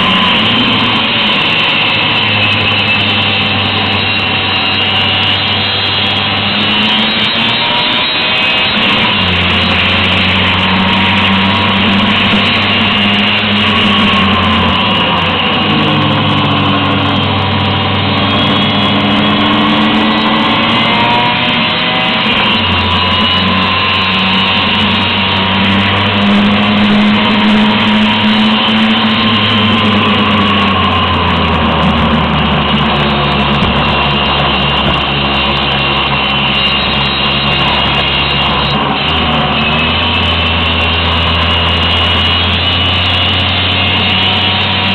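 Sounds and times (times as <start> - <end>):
other scooter engines wavering: 0.0 - 44.9.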